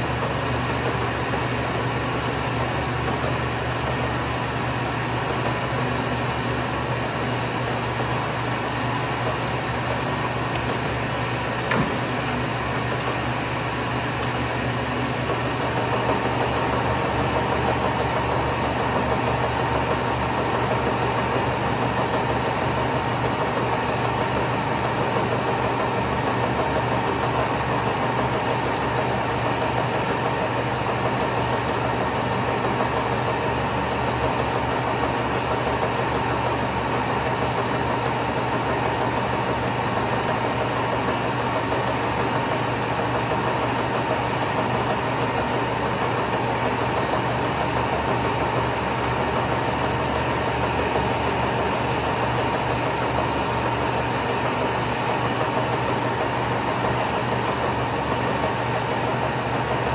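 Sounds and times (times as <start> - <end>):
lathe cutting whine: 0.0 - 59.9.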